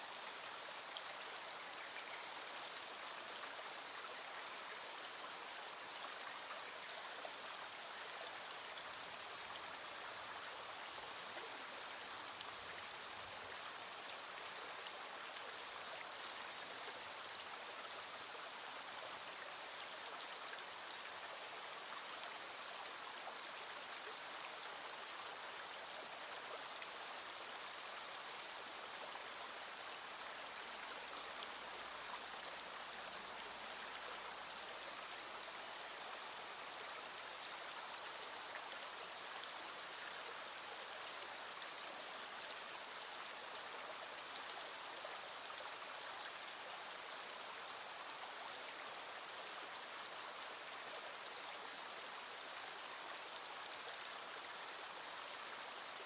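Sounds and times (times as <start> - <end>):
small stream flowing: 0.0 - 56.0.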